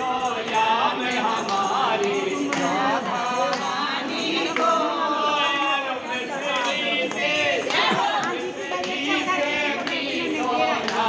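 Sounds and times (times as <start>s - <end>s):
percussion strikes: 0.0s - 11.0s
person singing devotional melody: 0.0s - 11.0s.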